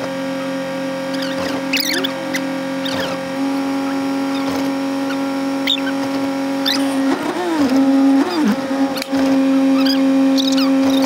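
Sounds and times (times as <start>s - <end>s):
vehicle cab hum: 0.0s - 11.0s
wavering pitch sliding sound: 1.0s - 11.0s
windshield wiper squeaking: 1.0s - 11.0s.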